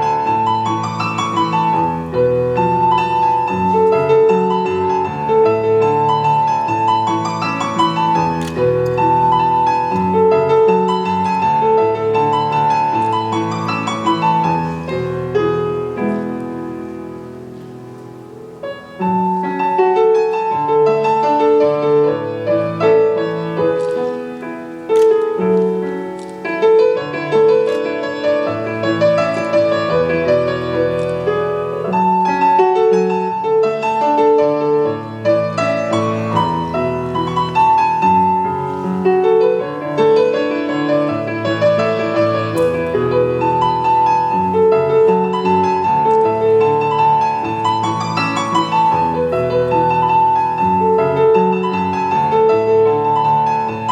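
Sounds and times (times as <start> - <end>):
slow classical piano: 0.0 - 53.9.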